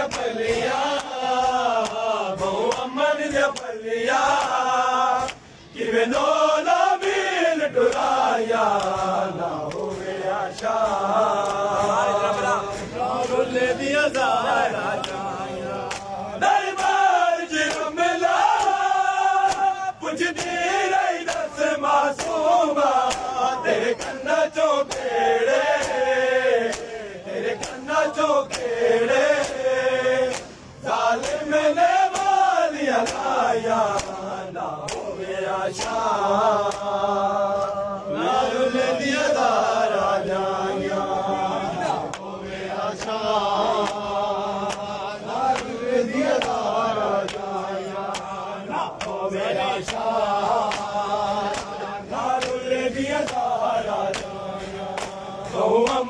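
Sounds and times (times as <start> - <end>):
chest-beating slaps: 0.0 - 6.4, 7.8 - 13.5, 14.4 - 16.2, 16.8 - 26.0, 26.6 - 35.1, 35.8 - 37.8, 42.0 - 56.0
men chanting together: 0.0 - 56.0.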